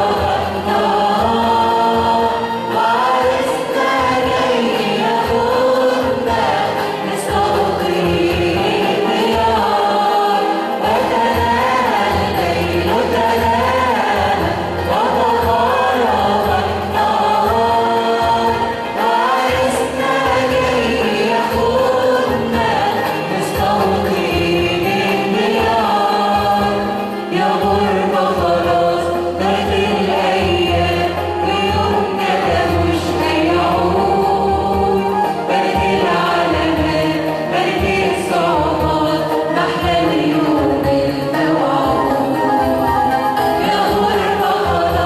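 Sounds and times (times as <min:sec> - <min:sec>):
church choir singing a hymn: 0:00.0 - 0:45.0.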